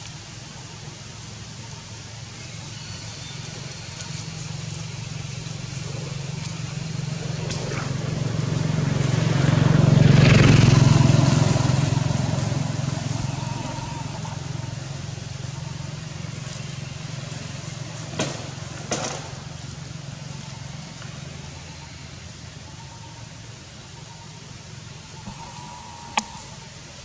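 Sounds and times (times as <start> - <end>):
steady background hum: 0.0 - 27.0
vehicle engine passing by: 2.5 - 27.0.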